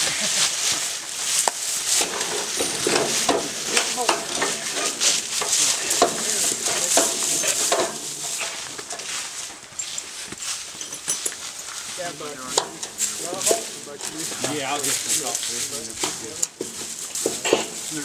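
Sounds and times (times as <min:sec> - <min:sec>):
footsteps crunching dry leaves: 0:00.0 - 0:18.0.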